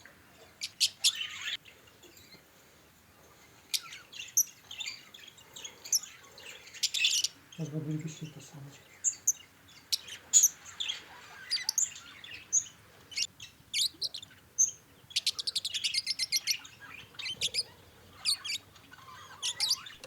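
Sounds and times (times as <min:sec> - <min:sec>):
budgerigars chattering: 0:03.8 - 0:20.0.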